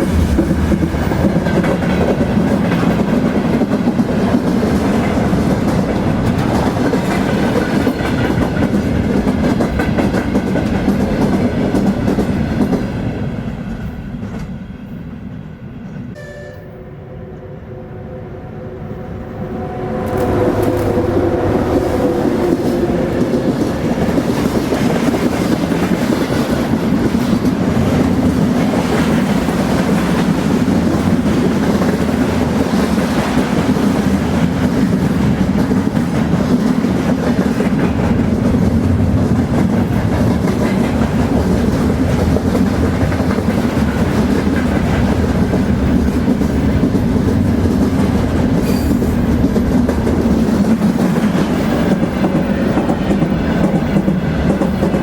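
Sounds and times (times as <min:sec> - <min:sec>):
train wheels rumbling on rails: 0:00.0 - 0:16.2, 0:19.0 - 0:55.0.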